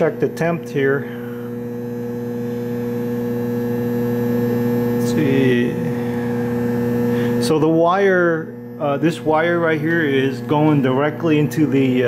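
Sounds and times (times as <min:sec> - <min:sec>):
inverter buzzing: 0:00.0 - 0:12.0.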